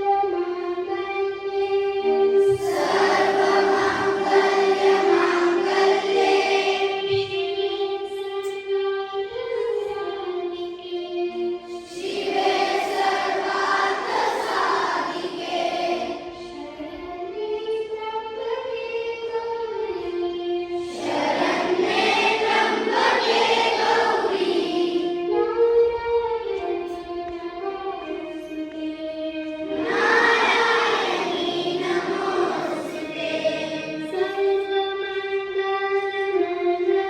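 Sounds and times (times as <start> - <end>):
accompanying music: 0.0 - 37.0
children's choir singing: 0.0 - 37.0.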